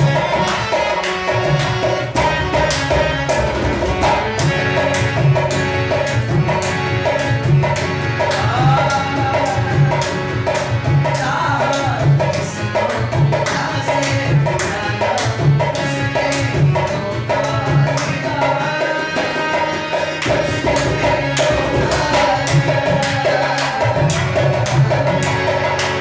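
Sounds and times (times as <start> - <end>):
dholak rhythm: 0.0 - 26.0
wavering instrumental melody: 0.0 - 26.0.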